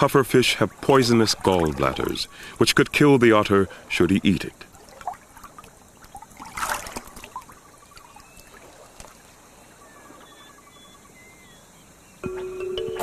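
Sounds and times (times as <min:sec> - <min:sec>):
water trickling and splashing: 0:00.0 - 0:10.4.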